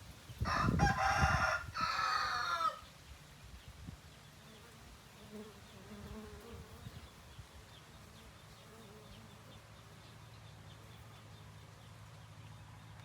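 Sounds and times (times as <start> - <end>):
faint buzzing of honeybees: 1.0 - 12.5.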